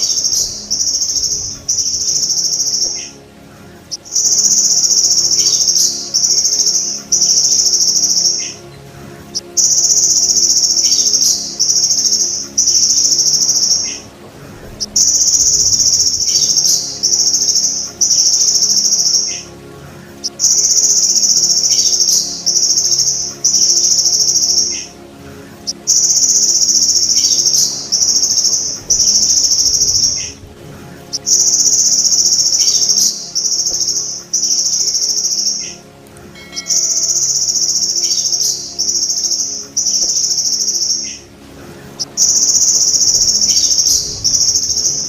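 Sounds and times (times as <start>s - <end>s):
grasshopper trilling: 0.0s - 45.0s.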